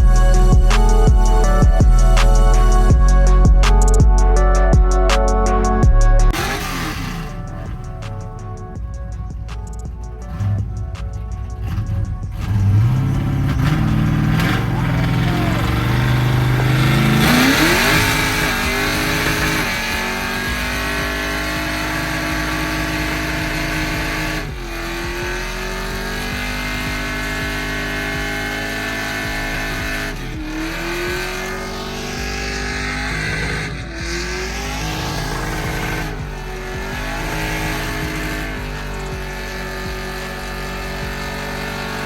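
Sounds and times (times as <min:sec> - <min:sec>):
car engine revving through loud exhaust: 0:00.0 - 0:42.0.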